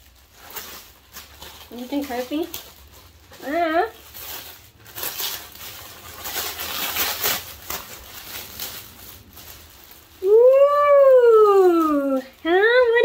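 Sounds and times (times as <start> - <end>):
plastic wrapping rustling: 0.0 - 13.0.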